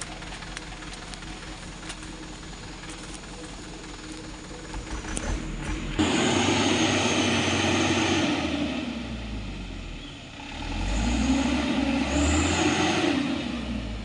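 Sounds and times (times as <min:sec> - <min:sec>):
truck diesel engine revving: 0:00.0 - 0:14.0.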